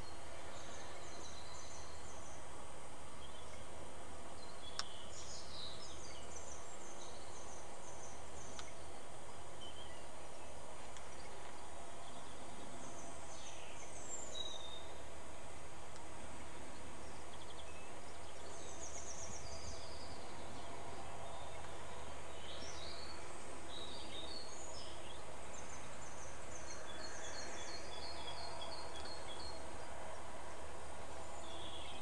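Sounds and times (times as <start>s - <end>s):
small birds singing: 0.0s - 32.0s
steady background hiss: 0.0s - 32.0s.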